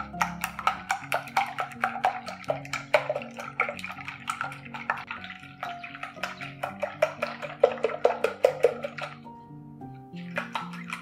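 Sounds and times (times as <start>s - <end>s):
wire whisk beating eggs in bowl: 0.0s - 9.3s, 10.1s - 11.0s
soft background music: 0.0s - 11.0s.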